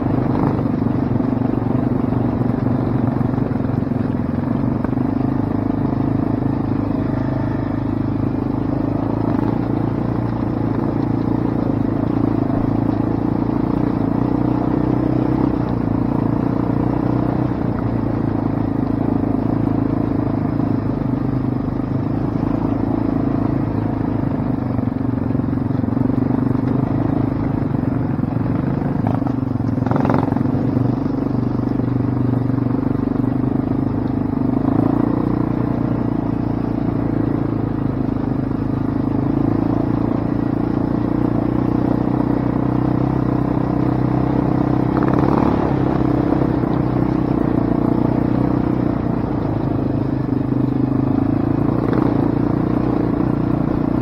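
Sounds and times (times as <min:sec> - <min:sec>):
quad engine running: 0:00.0 - 0:54.0.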